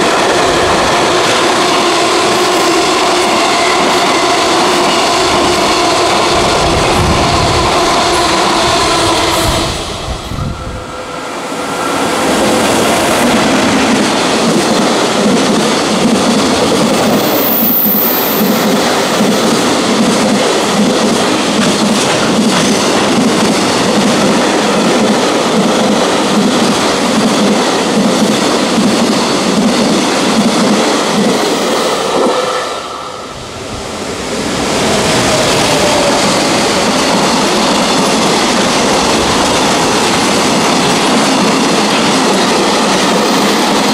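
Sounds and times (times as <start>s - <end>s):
freight train rumbling: 0.0s - 43.9s.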